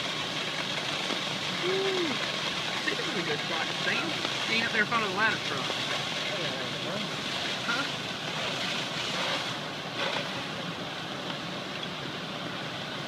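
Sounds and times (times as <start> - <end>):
fire truck engine and pump: 0.0 - 13.0
hoses spraying water: 0.0 - 13.0.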